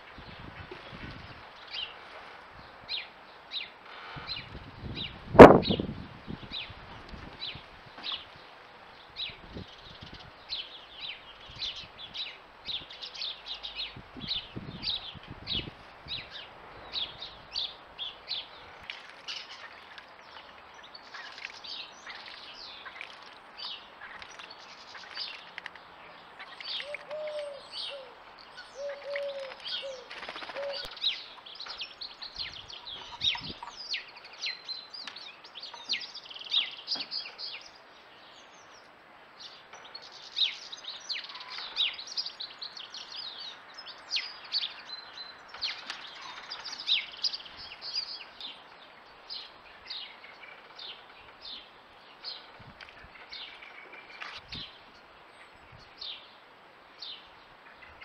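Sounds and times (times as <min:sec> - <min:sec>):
small birds singing and chirping: 0:00.0 - 0:58.0.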